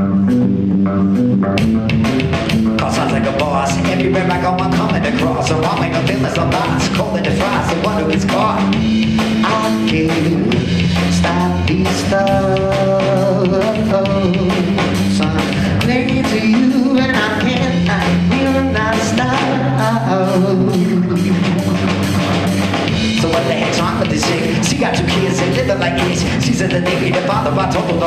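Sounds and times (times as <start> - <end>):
drum kit beat: 0.0 - 28.0
guitar: 0.0 - 28.0.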